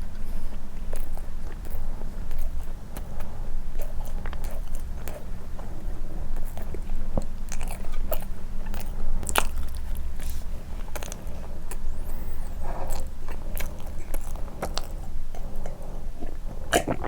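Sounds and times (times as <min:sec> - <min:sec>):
chewing and biting soft bread: 0:00.0 - 0:17.0
steady low hum: 0:00.0 - 0:17.0.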